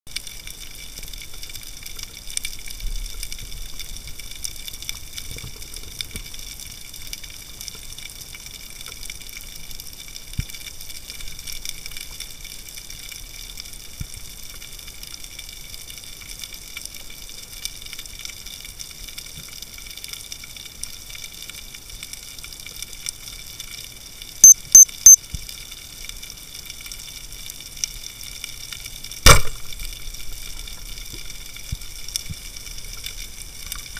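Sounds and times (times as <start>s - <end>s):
faint ticks: 0.1s - 33.9s.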